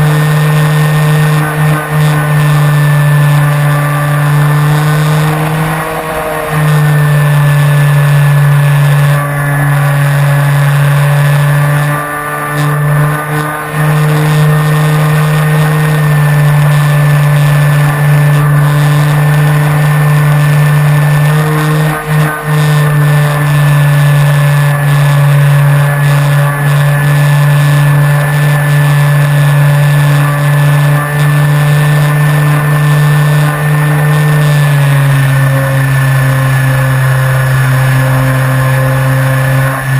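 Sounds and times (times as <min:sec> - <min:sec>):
electric motor and propeller drone: 0:00.0 - 0:39.9.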